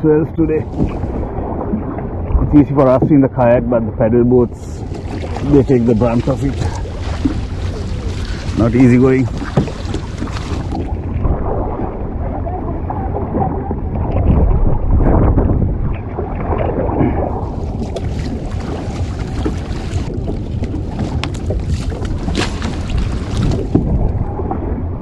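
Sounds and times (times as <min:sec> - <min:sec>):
water sloshing and splashing: 0:00.0 - 0:25.0
wind rumbling on microphone: 0:00.0 - 0:25.0.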